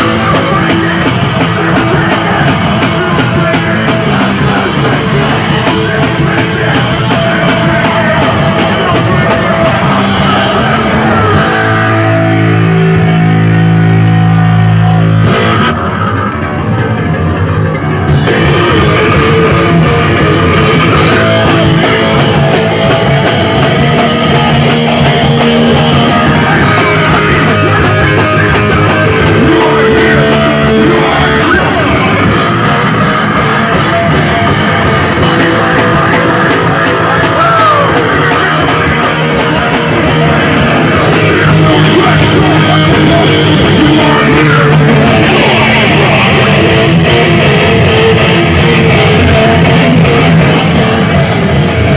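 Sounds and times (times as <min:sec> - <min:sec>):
punk rock music: 0:00.0 - 0:51.9.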